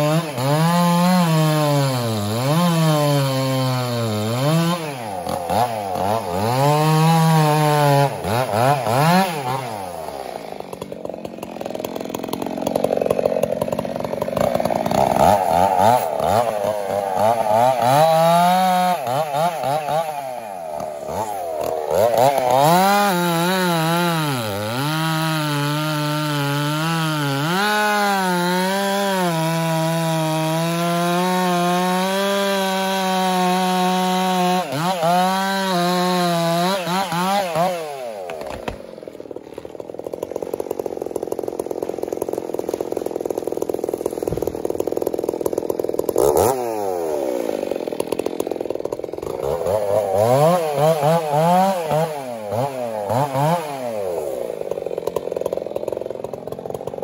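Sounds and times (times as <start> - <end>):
chainsaw cutting through trunk: 0.0 - 57.0.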